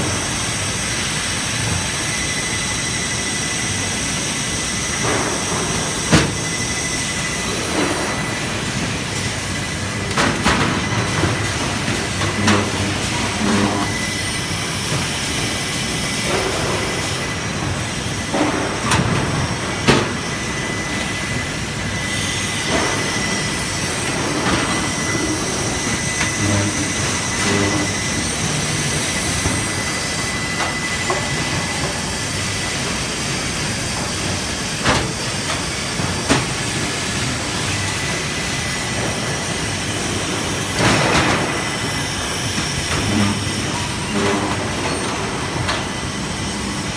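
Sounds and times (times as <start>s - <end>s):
welding machine rolling rumble: 3.7s - 46.9s
machine knocks and clanks: 5.0s - 46.9s.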